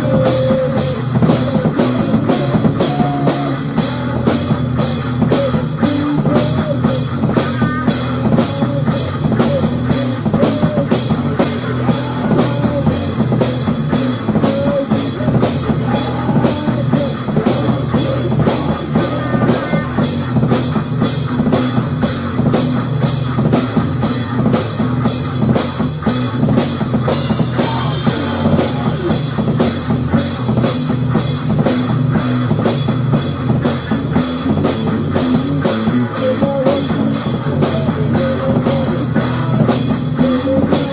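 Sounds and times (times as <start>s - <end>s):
drum kit beat: 0.0s - 40.9s
loud rock music: 0.0s - 40.9s.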